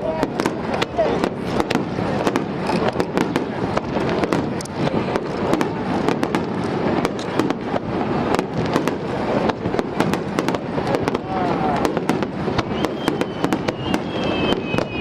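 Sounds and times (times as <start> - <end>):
dense steady rumble: 0.0 - 15.0
fireworks bangs and crackles: 0.0 - 15.0.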